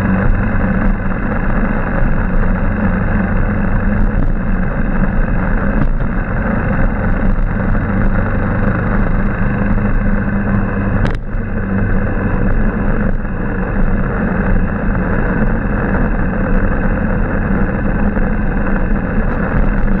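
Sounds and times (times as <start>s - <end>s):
motorbike engine running: 0.0s - 20.0s
road and wind noise: 0.0s - 20.0s.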